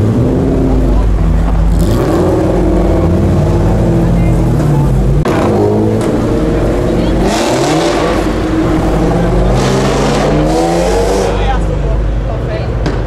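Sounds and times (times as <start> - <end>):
car engines running loudly: 0.0 - 13.0.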